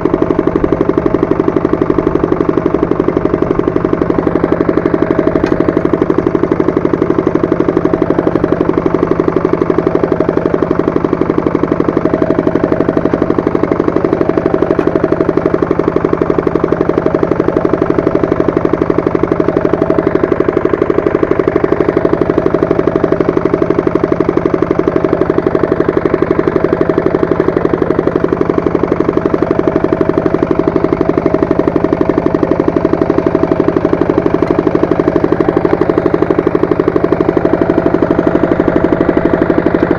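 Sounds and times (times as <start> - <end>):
tractor engine running with tiller: 0.0 - 39.9.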